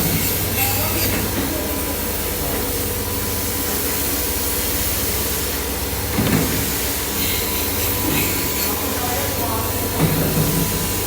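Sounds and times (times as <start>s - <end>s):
factory machinery noise: 0.0s - 11.0s.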